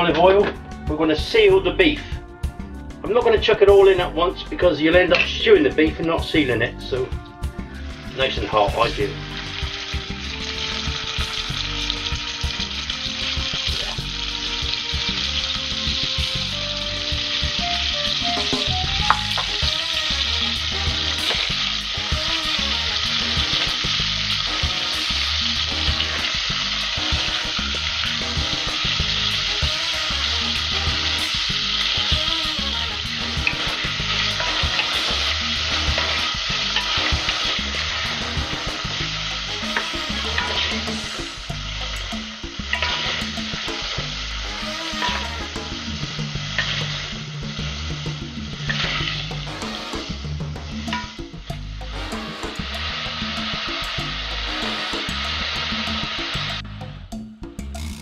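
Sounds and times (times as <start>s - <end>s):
meat sizzling in oil: 7.1s - 56.6s.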